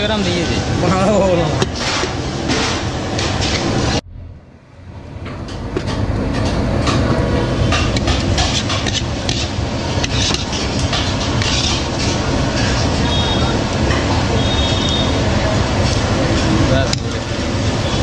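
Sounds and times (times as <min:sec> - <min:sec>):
loud steady rumbling: 0:00.0 - 0:18.0.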